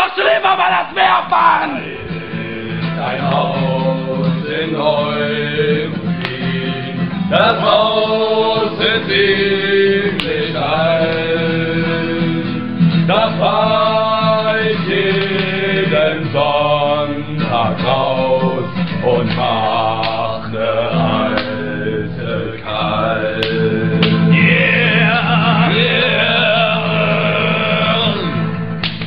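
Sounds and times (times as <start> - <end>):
men singing together: 0.0 - 28.6.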